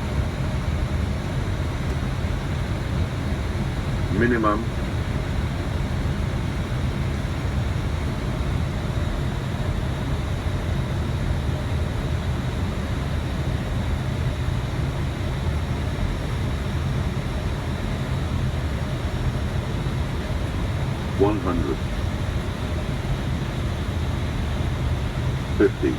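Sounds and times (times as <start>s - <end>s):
cockpit airflow and ventilation: 0.0s - 25.9s.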